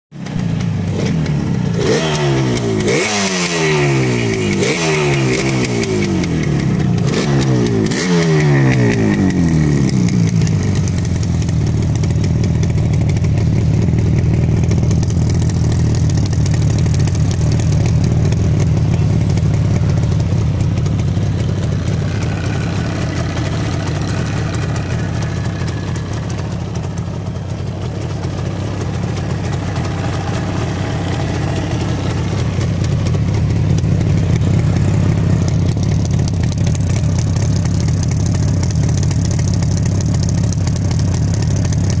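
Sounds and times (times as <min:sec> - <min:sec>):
two-stroke motorcycle engine idling: 0:00.2 - 0:42.0.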